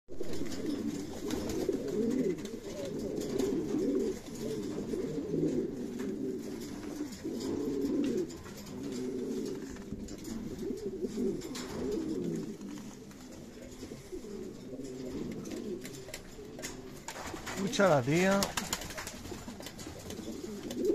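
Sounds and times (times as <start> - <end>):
pigeons cooing: 0.1 - 20.9.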